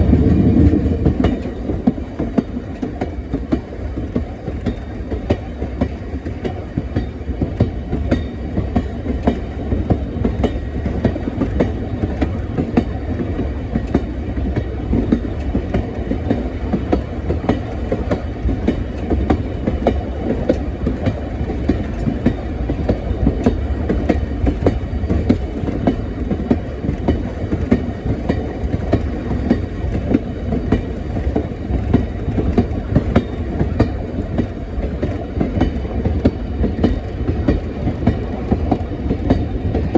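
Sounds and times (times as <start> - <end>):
train rumbling on track: 0.0 - 39.9
wheels clicking over rails: 0.0 - 39.9.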